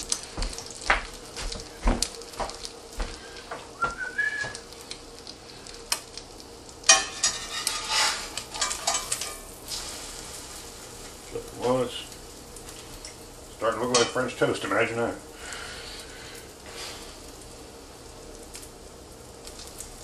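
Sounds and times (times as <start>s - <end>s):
bread sizzling in butter: 0.0s - 20.0s.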